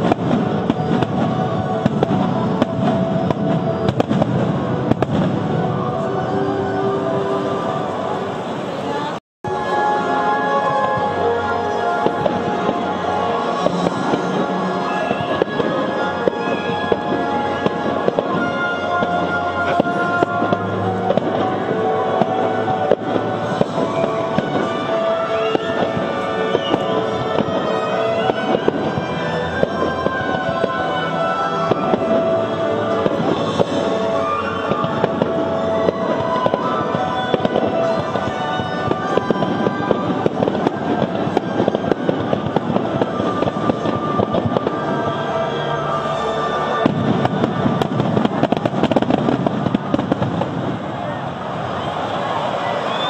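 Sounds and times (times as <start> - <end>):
fireworks bursting and crackling: 0.0 - 53.0
music playing: 0.0 - 53.0.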